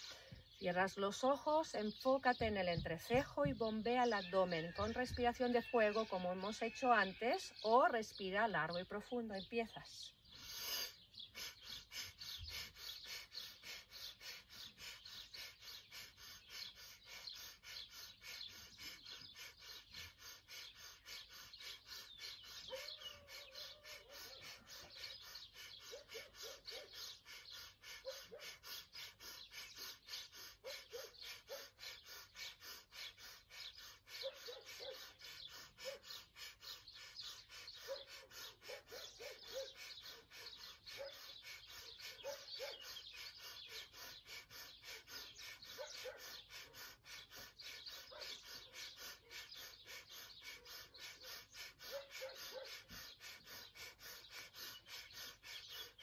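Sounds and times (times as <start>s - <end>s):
birds chirping: 0.0s - 56.0s
forceful rapid nose breathing: 10.2s - 56.0s.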